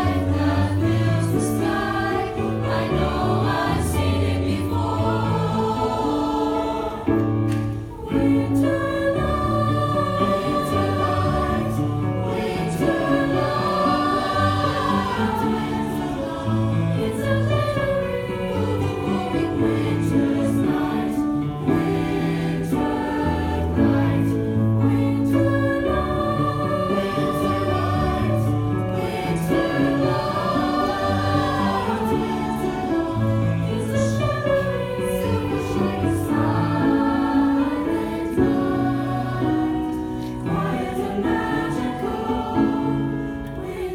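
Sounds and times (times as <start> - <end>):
choir singing in parts: 0.0 - 43.9.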